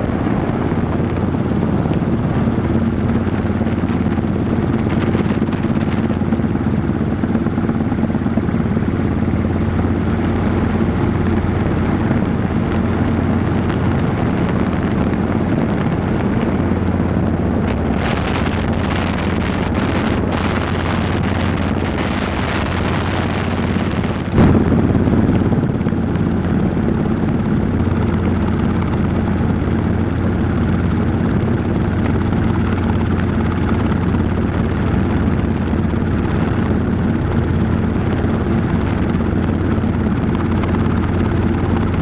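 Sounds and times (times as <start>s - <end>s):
helicopter running from on board: 0.0s - 42.0s.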